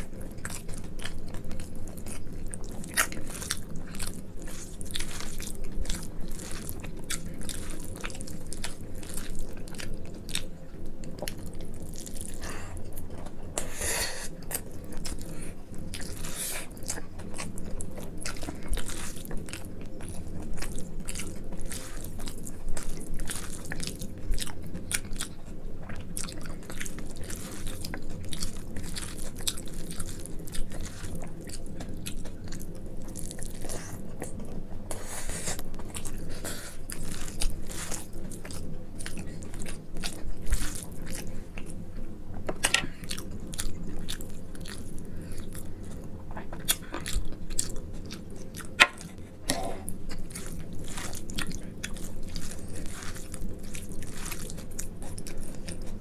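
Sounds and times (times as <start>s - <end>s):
wet chewing and lip-smacking: 0.0s - 56.0s.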